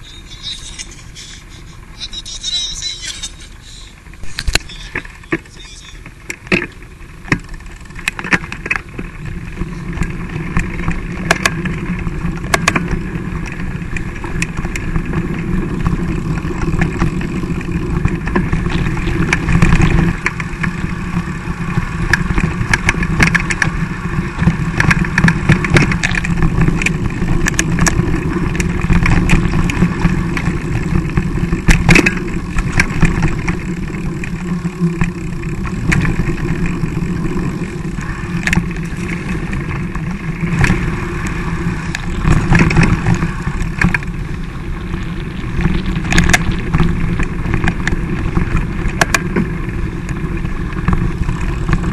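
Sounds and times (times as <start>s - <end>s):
wind and rolling rumble: 0.0s - 51.9s
bike rattling over bumps: 3.6s - 51.9s.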